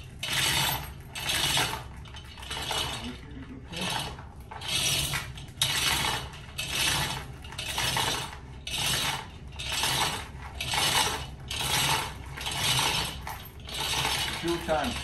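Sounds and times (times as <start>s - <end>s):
chain hoist chain rattling: 0.0s - 15.0s.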